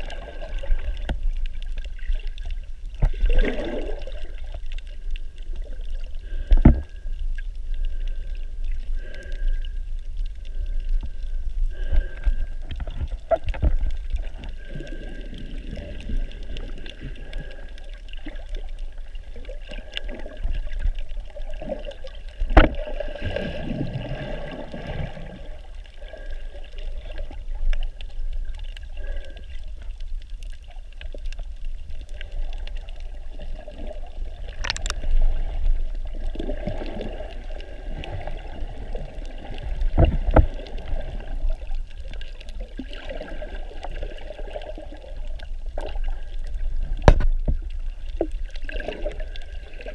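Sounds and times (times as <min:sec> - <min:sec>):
muffled water sloshing and gurgling: 0:00.0 - 0:49.9.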